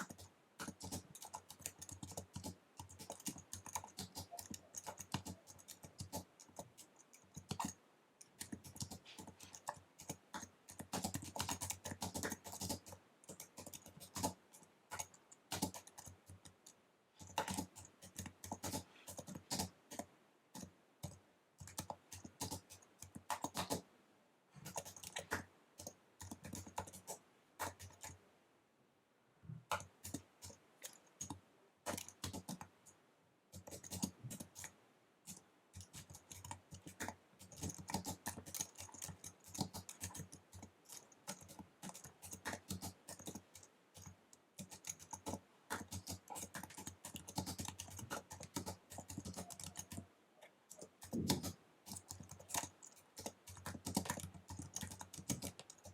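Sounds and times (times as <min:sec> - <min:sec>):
fast typing on keyboard: 0:00.0 - 0:23.9, 0:24.6 - 0:28.2, 0:29.6 - 0:32.9, 0:33.5 - 0:50.1, 0:50.7 - 0:55.9.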